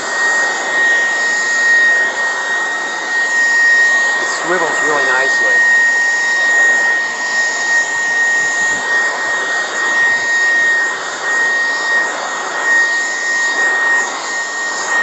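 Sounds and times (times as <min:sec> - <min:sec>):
stick vacuum motor whine: 0:00.0 - 0:15.0.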